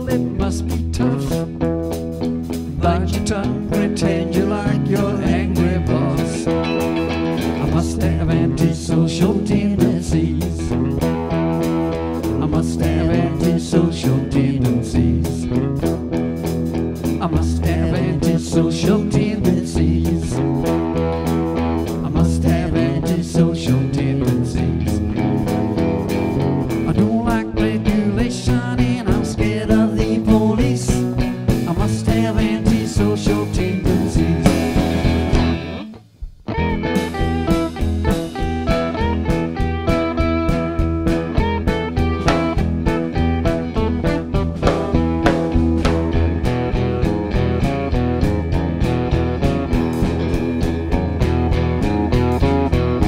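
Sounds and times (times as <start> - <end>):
bass guitar: 0.0 - 53.0
drum kit beat: 0.0 - 53.0
electric guitars: 0.0 - 53.0.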